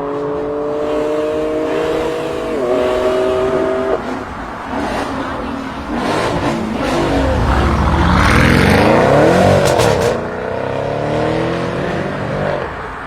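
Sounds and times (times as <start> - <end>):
car engine revving hard: 0.0 - 12.8.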